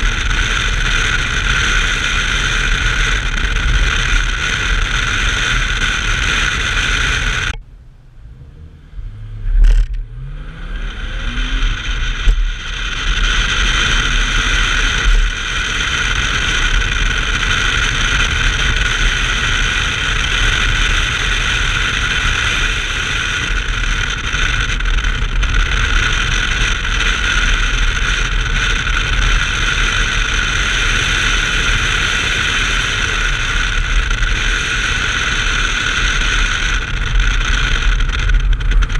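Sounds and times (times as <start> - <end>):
car engine drone: 0.0 - 38.9.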